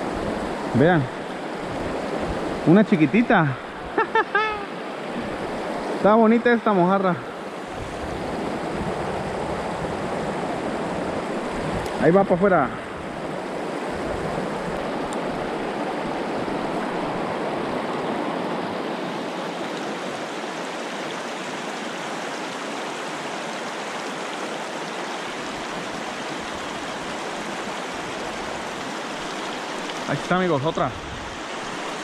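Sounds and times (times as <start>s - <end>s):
river rushing over stones: 0.0s - 32.0s.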